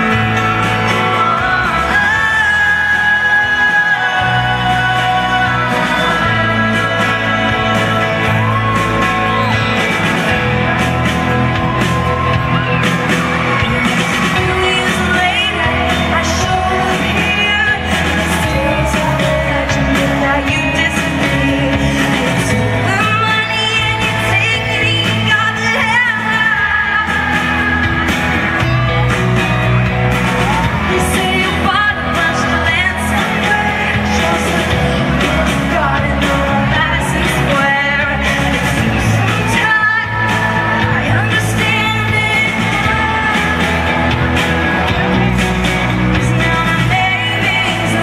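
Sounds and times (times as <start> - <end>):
live band playing: 0.0 - 48.0
steady bass notes: 0.0 - 48.0
woman singing lead vocal: 0.0 - 48.0.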